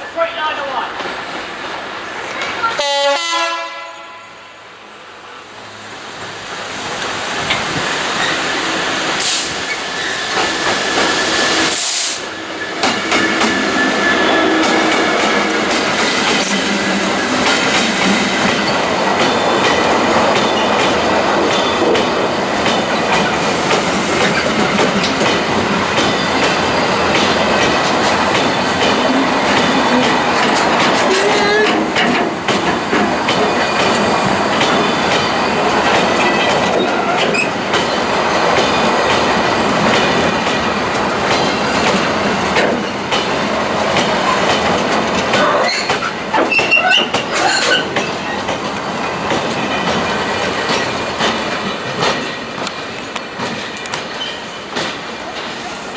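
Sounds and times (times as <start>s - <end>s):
train wheels rumbling on rails: 0.0s - 3.4s, 4.9s - 55.9s
clickety-clack over rail joints: 0.3s - 2.8s, 6.2s - 55.9s.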